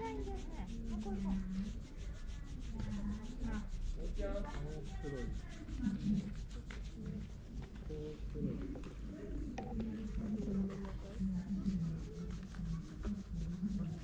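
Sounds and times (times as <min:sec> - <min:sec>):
fingers scratching cat fur: 0:00.0 - 0:08.1, 0:10.2 - 0:14.0.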